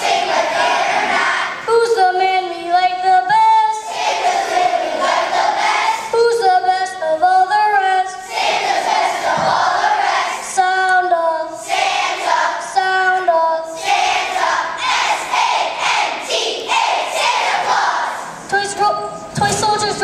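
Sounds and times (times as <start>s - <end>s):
children's choir singing: 0.0s - 18.5s.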